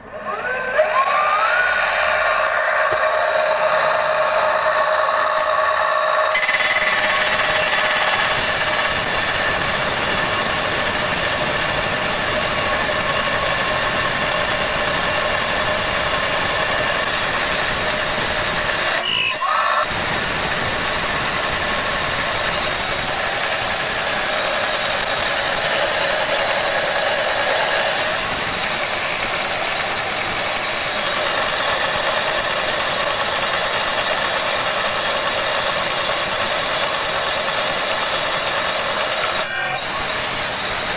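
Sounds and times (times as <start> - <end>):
metal cut-off saw whining: 0.0 - 40.9.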